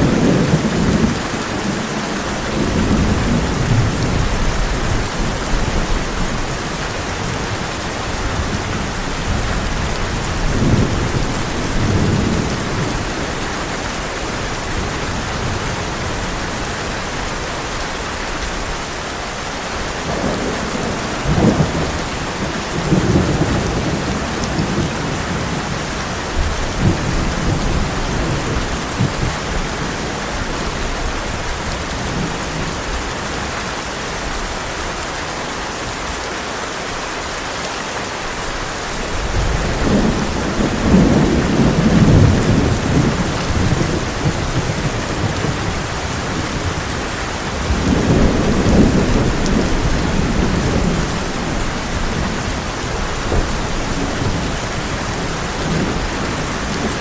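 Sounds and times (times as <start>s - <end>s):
thunder rumbling: 0.0s - 17.0s, 19.8s - 33.5s, 39.1s - 57.0s
heavy rain on a tin roof: 0.0s - 57.0s.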